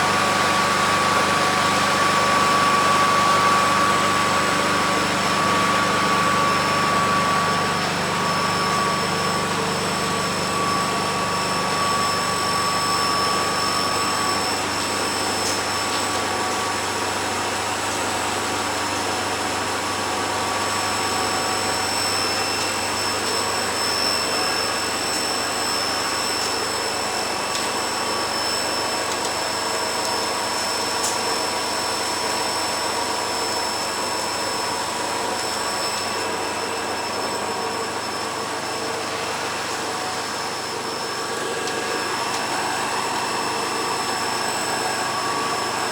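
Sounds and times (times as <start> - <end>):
high-pitched whines: 0.0 - 17.7, 20.4 - 45.9
machinery engine drone: 0.0 - 45.9.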